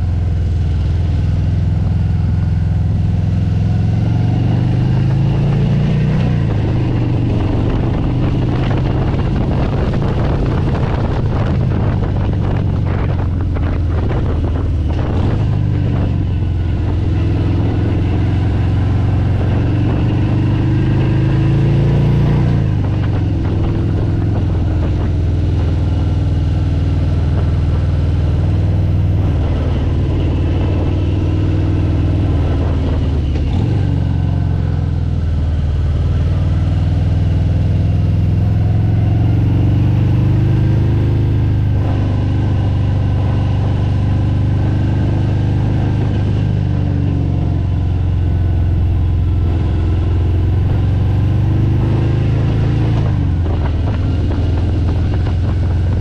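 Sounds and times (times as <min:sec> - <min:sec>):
motorcycle engine accelerating: 0:00.0 - 0:56.0
wind buffeting microphone: 0:04.2 - 0:56.0.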